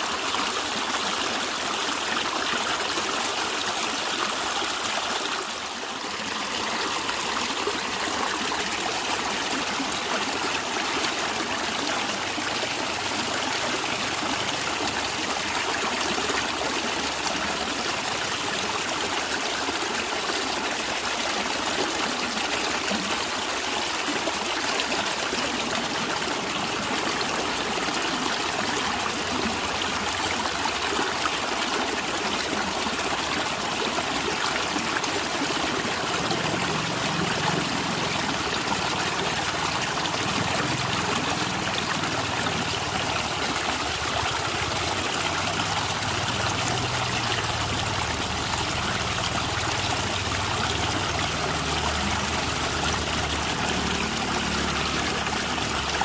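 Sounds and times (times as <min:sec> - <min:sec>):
stream running and gurgling: 0:00.0 - 0:56.0.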